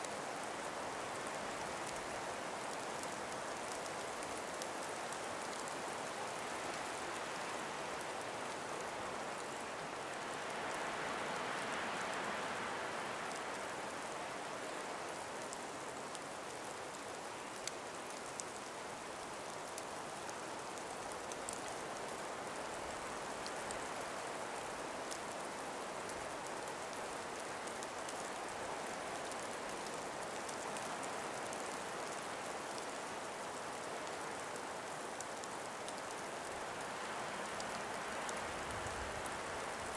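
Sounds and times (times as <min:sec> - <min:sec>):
breeze through snowy trees: 0:00.0 - 0:39.9.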